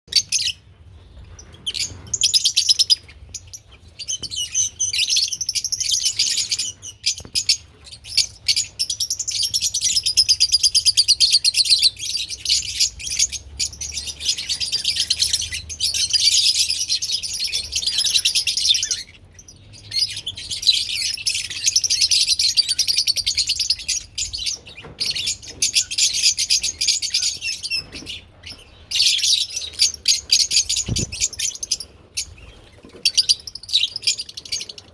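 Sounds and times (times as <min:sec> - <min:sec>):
lovebirds chirping: 0:00.1 - 0:34.9.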